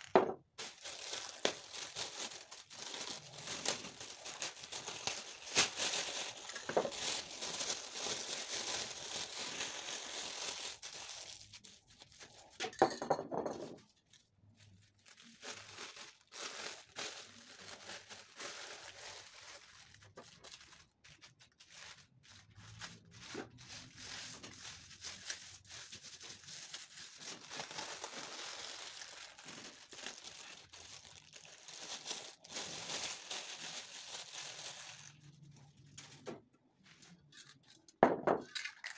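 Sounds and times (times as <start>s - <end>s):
plastic bag crinkling: 0.0s - 12.6s, 13.4s - 36.3s.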